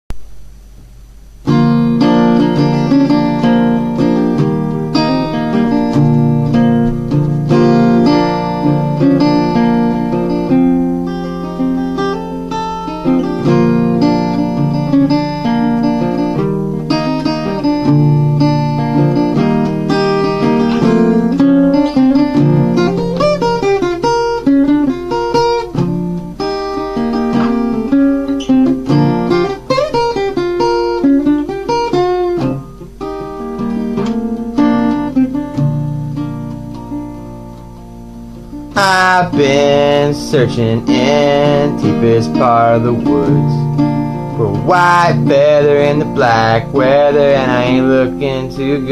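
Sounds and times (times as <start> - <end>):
acoustic guitar picking and strumming: 1.4 - 48.9.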